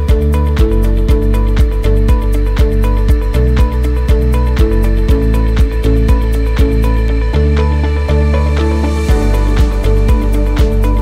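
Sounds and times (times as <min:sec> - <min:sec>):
background music with steady beat: 0:00.0 - 0:11.0
held bass notes: 0:00.0 - 0:11.0.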